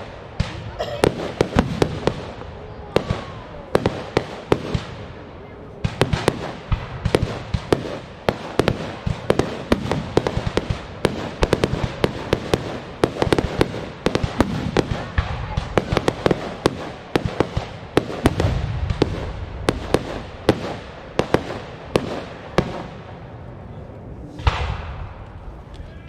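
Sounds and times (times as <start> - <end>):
aerial fireworks bangs and crackling: 0.0 - 23.5, 24.4 - 25.7.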